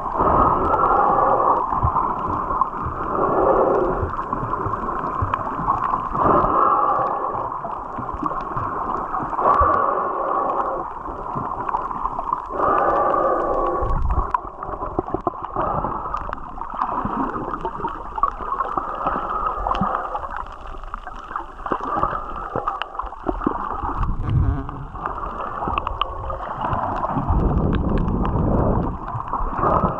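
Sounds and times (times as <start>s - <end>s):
underwater water rush and gurgling: 0.0s - 29.9s.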